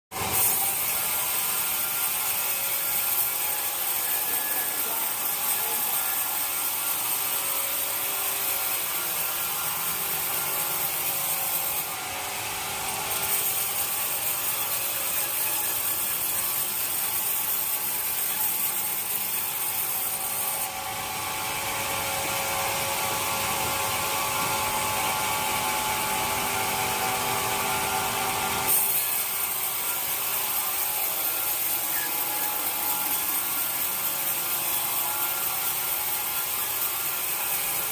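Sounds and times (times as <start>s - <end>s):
saw cutting through wood: 0.1s - 37.9s
mechanical hum: 0.2s - 37.9s.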